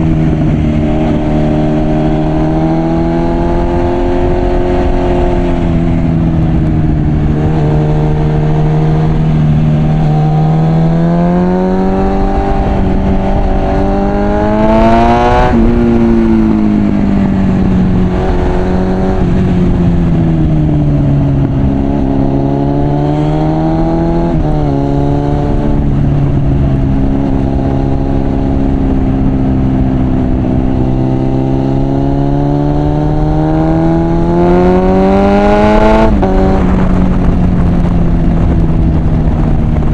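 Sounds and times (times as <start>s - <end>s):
motorcycle engine revving: 0.0s - 39.9s
rush of wind: 0.0s - 39.9s.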